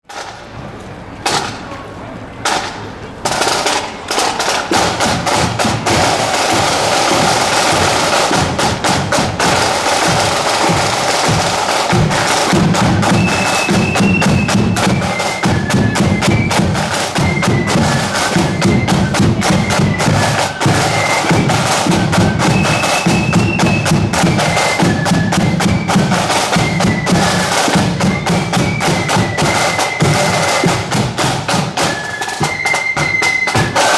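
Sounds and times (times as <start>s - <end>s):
snare drums rattling: 2.4s - 33.9s
flutes playing high melody: 3.7s - 33.9s.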